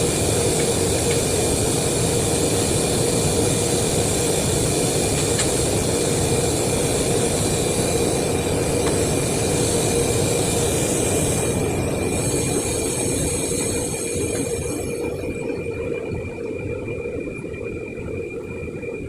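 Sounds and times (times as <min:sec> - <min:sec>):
machine running with high whine: 0:00.0 - 0:19.0.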